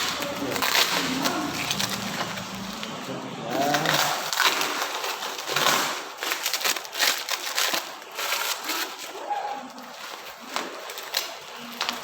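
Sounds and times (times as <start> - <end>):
packaging crackling and crunching: 0.0 - 12.0.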